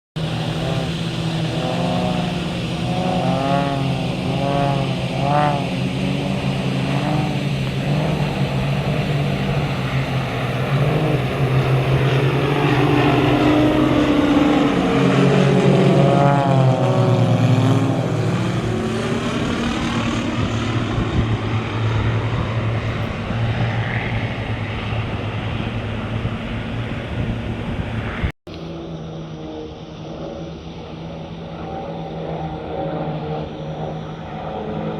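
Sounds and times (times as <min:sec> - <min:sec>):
aircraft flying past: 0:00.2 - 0:34.9.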